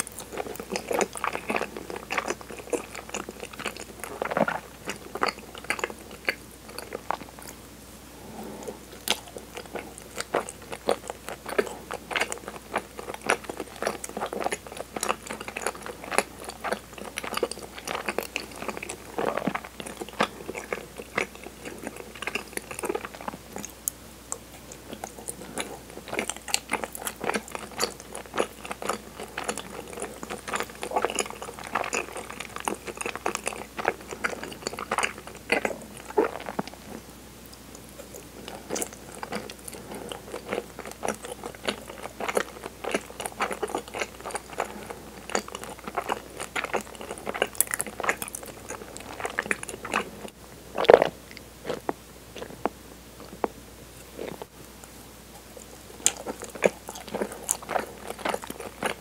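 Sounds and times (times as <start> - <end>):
chewing sticky food: 0.0 - 7.6, 8.3 - 59.0.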